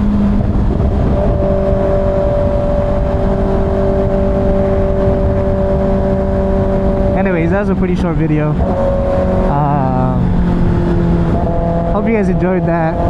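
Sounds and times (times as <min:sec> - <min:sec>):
heavy wind rush: 0:00.0 - 0:13.0
motorcycle engine running: 0:00.0 - 0:13.0.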